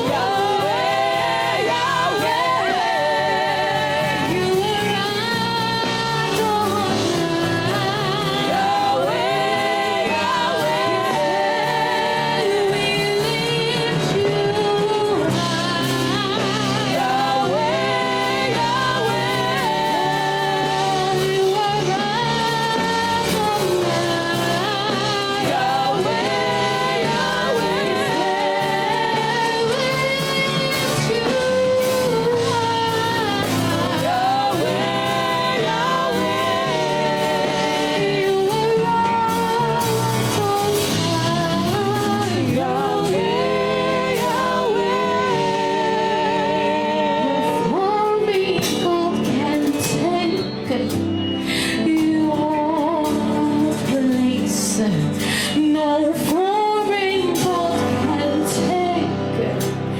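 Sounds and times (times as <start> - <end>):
gospel singing with lead voice: 0.0 - 59.9
guitar accompaniment: 0.0 - 59.9
keyboard accompaniment: 0.0 - 59.9.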